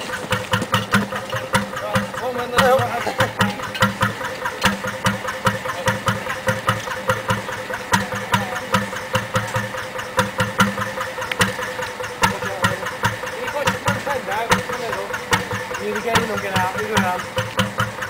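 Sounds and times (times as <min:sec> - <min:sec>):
boat engine idling with knocks: 0:00.0 - 0:18.0.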